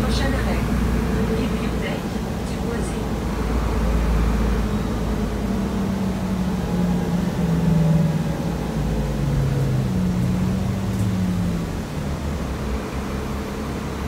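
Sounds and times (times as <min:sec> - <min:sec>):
bus engine drone: 0:00.0 - 0:14.0
low road rumble: 0:00.0 - 0:14.0.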